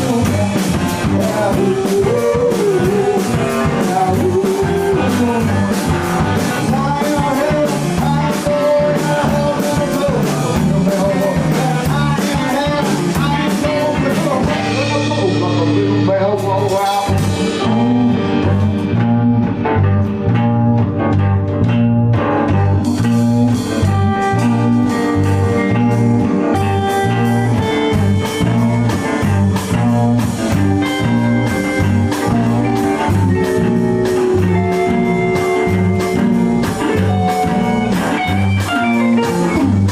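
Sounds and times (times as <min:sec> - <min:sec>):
bass line: 0:00.0 - 0:39.9
drum kit: 0:00.0 - 0:39.9
electric guitar: 0:00.0 - 0:39.9.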